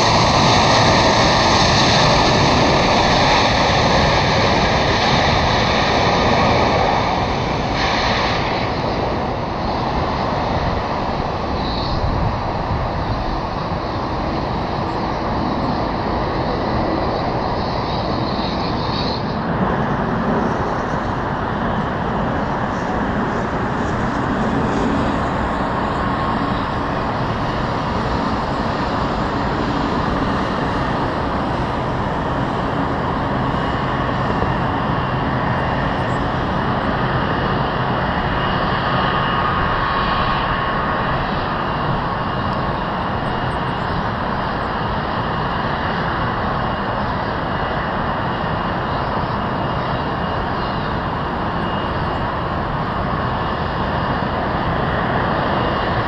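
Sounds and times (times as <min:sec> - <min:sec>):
jet engines rumbling with whine: 0:00.0 - 0:56.0.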